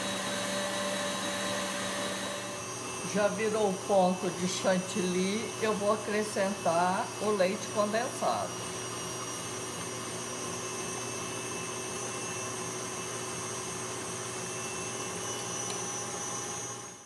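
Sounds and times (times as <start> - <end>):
stand mixer whisking cream: 0.0 - 17.0.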